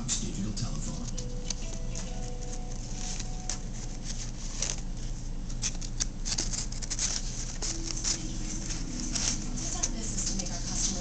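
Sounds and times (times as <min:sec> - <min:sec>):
paper rustling and crinkling: 0:00.6 - 0:11.0.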